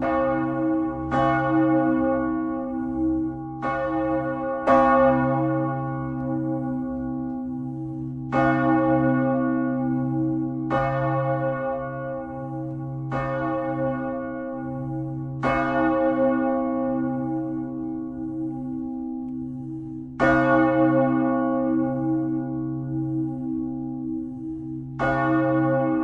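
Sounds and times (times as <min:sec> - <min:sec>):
church bell ringing: 0:00.0 - 0:26.0.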